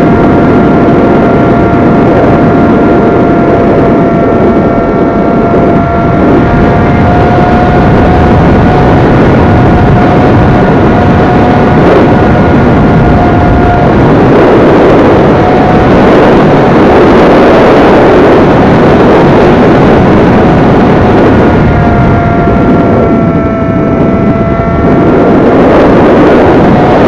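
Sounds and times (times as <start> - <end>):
electric motor whine: 0.0 - 27.0
rushing wind over camera: 0.0 - 27.0.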